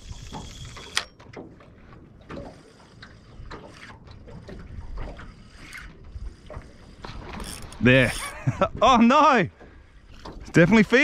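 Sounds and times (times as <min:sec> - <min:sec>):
water lapping against boat hull: 0:00.0 - 0:11.0
light knocks and splashes: 0:00.1 - 0:07.9, 0:09.5 - 0:10.8.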